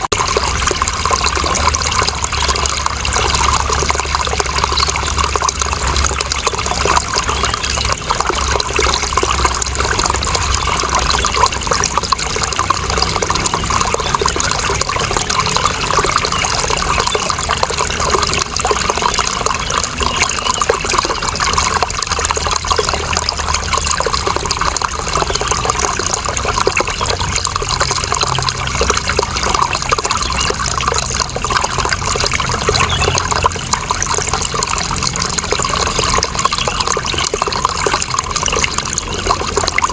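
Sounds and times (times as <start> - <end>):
running water splashing: 0.0 - 39.9.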